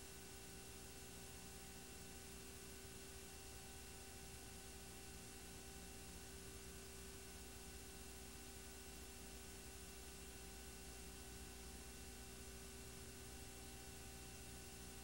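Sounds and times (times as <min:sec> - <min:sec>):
faint steady hiss and hum: 0:00.0 - 0:15.0.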